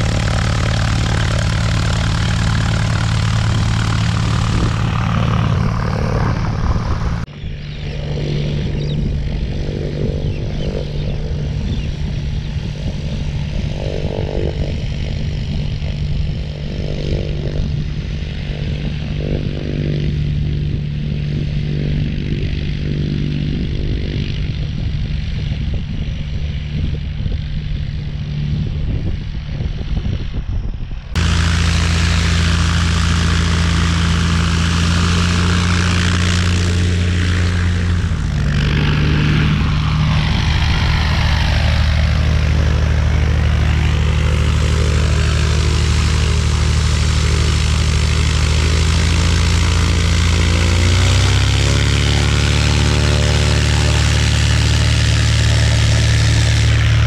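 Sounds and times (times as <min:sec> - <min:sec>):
light aircraft engine and propeller: 0:00.0 - 0:57.0
steady engine drone: 0:00.0 - 0:57.0.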